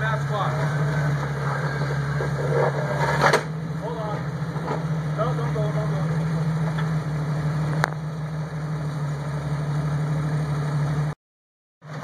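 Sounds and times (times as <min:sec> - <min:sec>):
car engine at low revs: 0:00.0 - 0:11.2.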